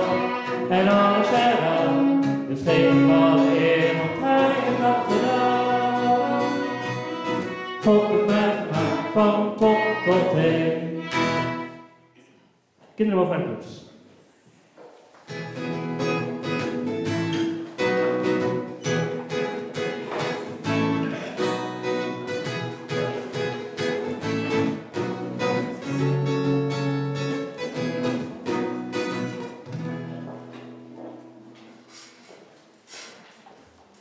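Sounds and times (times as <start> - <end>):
acoustic guitar strumming: 0.0 - 12.2, 15.3 - 32.2.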